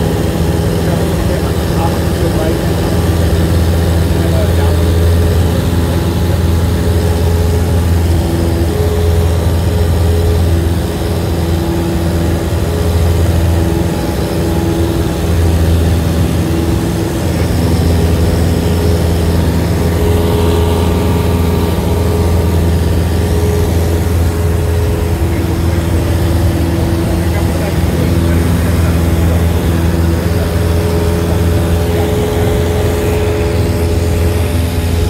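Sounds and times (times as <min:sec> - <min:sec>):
light plane engine and propeller drone: 0:00.0 - 0:35.0.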